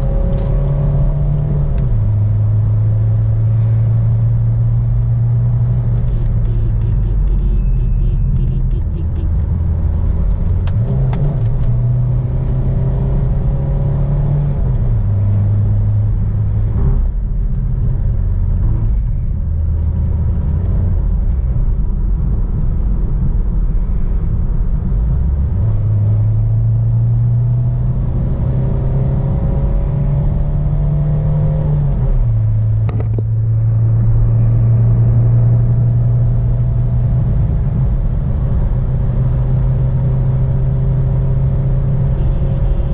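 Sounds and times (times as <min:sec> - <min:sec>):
road and tyre noise: 0:00.0 - 0:42.9
turbodiesel car engine under load: 0:00.0 - 0:42.9.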